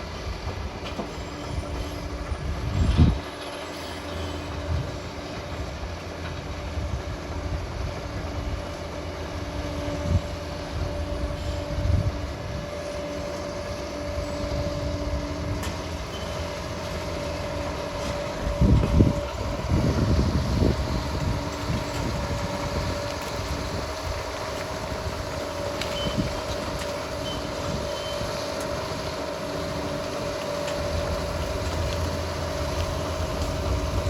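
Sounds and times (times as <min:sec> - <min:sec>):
bulldozer engine rumble and whine: 0:00.0 - 0:34.0.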